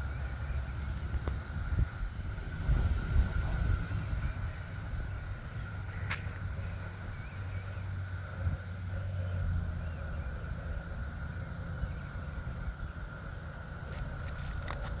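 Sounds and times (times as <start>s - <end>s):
low rumble: 0.0s - 14.8s
cicada chorus drone: 0.0s - 15.0s.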